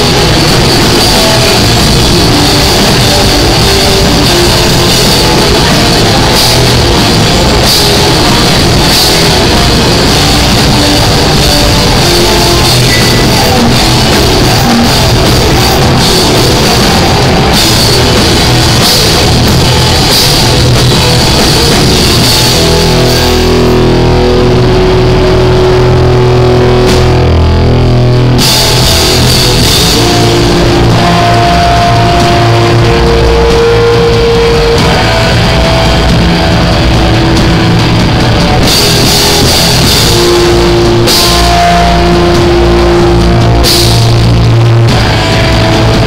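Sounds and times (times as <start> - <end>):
distorted electric guitars: 0.0 - 46.0
drum kit with crashing cymbals: 0.0 - 46.0.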